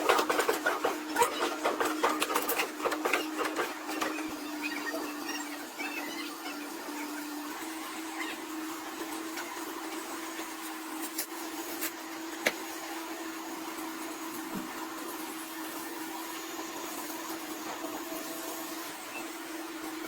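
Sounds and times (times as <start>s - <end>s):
electric motor hum: 0.0s - 20.0s.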